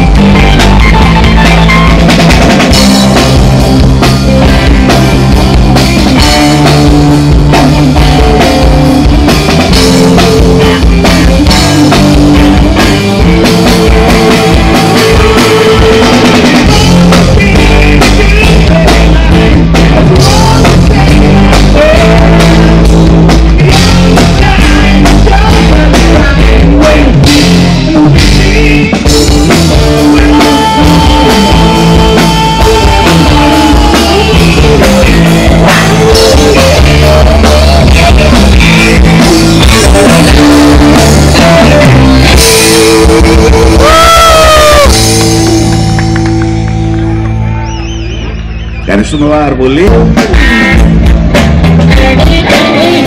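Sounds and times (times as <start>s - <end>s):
live rock band playing: 0.0s - 53.0s
person singing: 2.6s - 46.5s, 51.8s - 53.0s.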